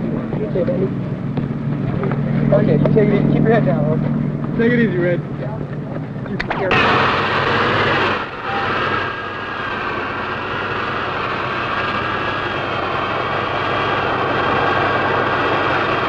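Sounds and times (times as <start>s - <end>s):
engine running with high whine: 0.0s - 16.0s.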